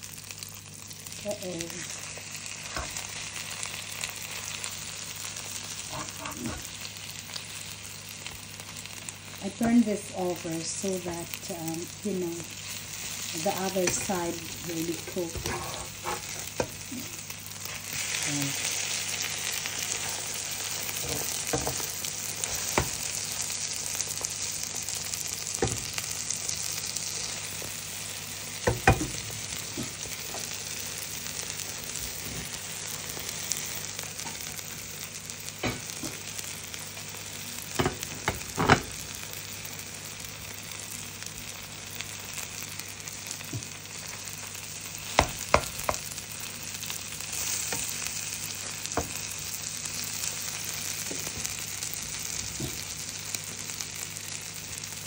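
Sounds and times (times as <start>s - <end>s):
omelette sizzling in a pan: 0.0s - 55.0s.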